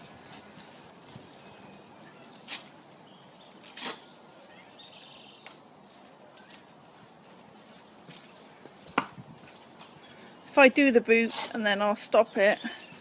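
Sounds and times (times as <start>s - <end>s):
faint outdoor background: 0.0s - 13.0s
bird chirping: 1.0s - 13.0s.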